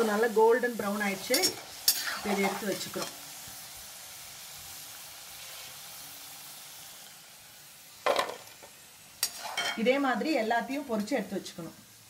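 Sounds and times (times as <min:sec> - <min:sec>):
potatoes deep-frying in oil: 0:00.0 - 0:12.0.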